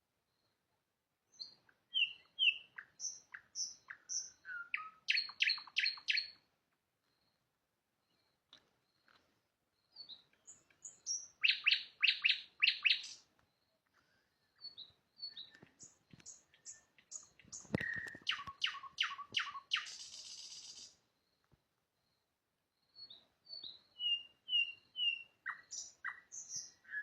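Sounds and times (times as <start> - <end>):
nightingale singing: 1.3 - 27.0.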